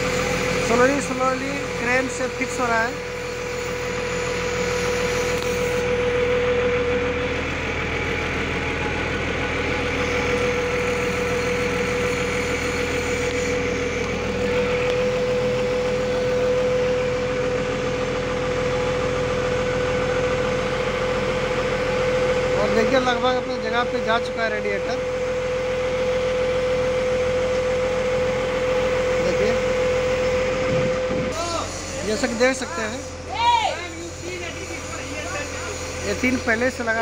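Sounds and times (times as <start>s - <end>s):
constant whine: 0.0s - 37.0s
crane engine running: 0.0s - 37.0s.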